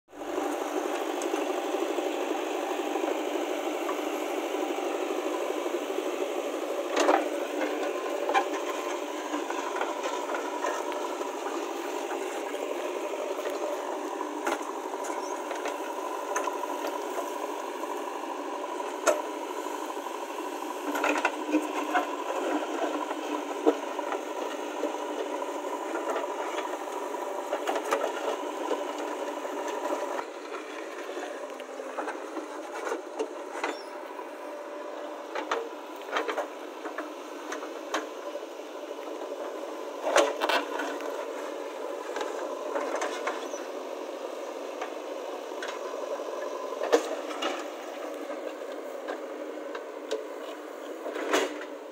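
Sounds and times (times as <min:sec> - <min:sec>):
diesel engine running under load: 0:00.1 - 0:51.9.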